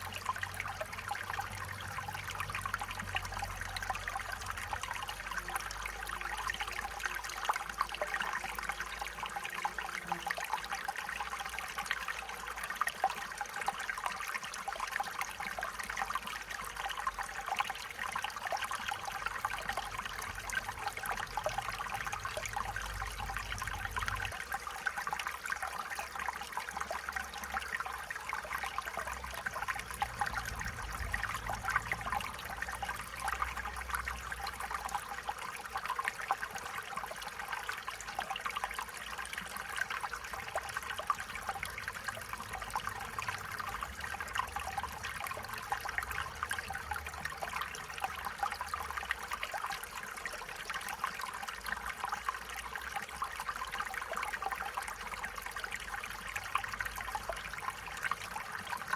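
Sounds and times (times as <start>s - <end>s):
stream water babbling: 0.0s - 58.9s.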